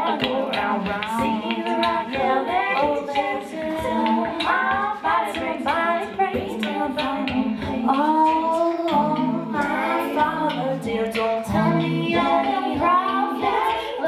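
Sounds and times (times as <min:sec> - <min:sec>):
beatboxed percussive clicks: 0:00.0 - 0:14.0
woman singing layered harmony: 0:00.0 - 0:14.0.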